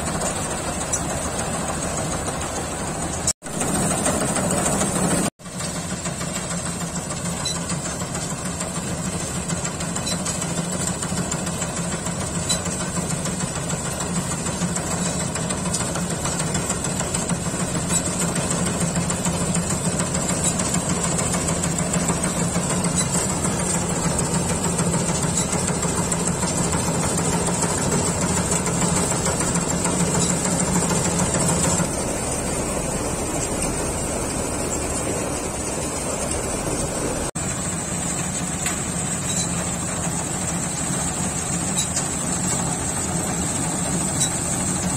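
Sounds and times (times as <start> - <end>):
combine harvester diesel engine drone: 0.0 - 44.9
machinery clatter: 0.0 - 44.9.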